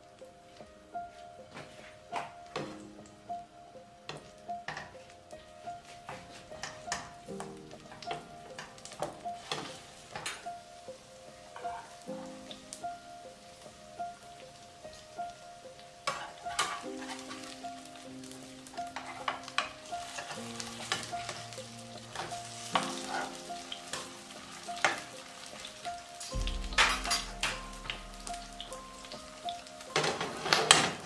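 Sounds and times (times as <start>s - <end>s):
fat crackling and popping: 4.1s - 13.0s, 14.4s - 31.0s
meat sizzling in oil: 4.1s - 31.0s.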